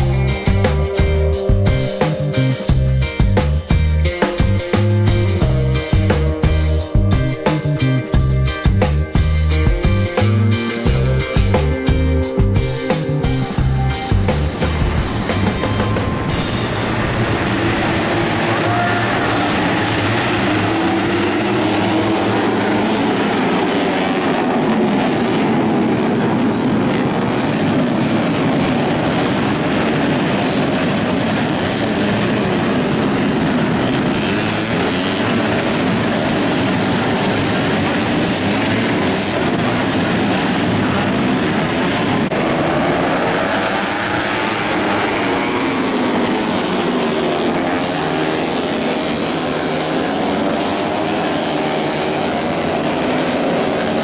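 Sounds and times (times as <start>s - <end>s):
racing motorcycles passing: 0.0s - 54.0s.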